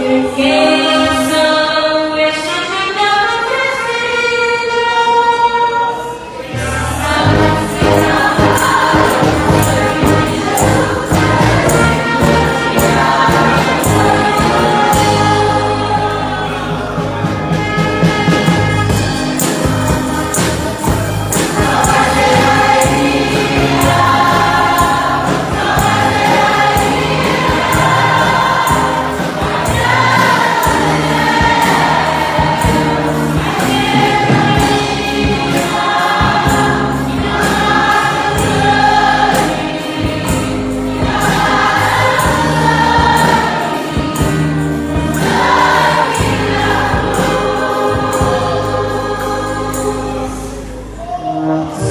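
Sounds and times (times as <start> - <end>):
choir singing a hymn: 0.0 - 51.9
instrumental backing with beat: 7.2 - 50.0.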